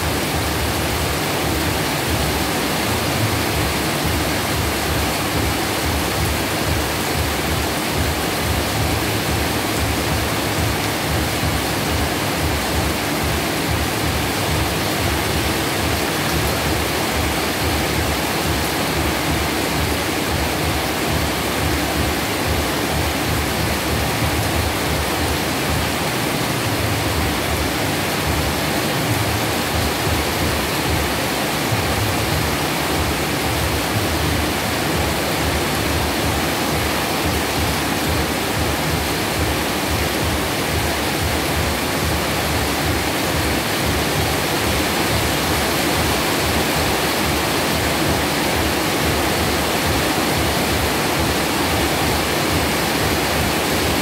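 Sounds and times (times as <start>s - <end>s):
heavy rain rushing: 0.0s - 54.0s.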